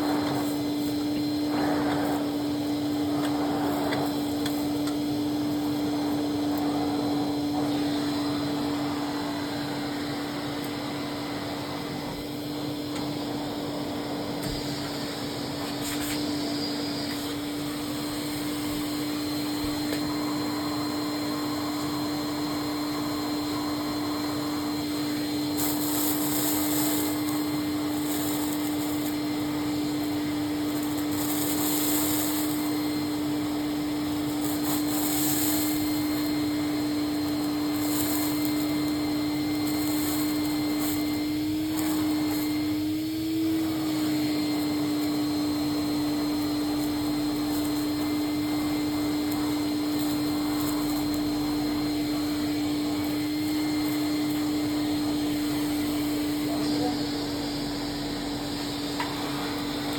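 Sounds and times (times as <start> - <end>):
high hiss: 0.0 - 59.9
vacuum cleaner motor whine: 0.0 - 59.9.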